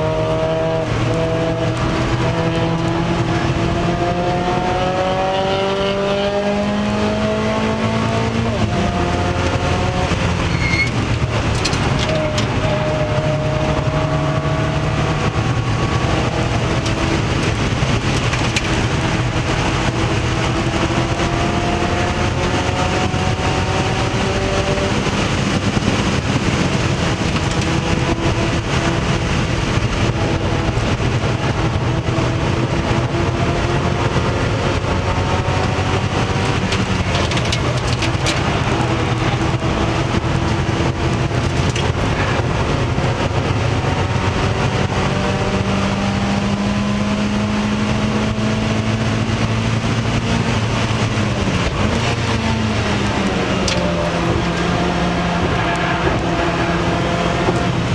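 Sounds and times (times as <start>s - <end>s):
race car engine revving: 0.0s - 57.9s
wind and road noise: 0.0s - 57.9s.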